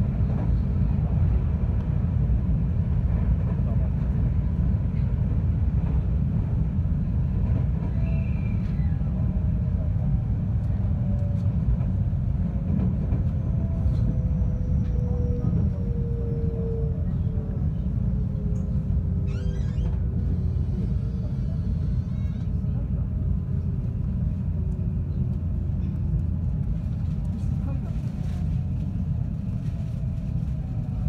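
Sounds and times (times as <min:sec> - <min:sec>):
wheels rumbling on rails: 0:00.0 - 0:31.0.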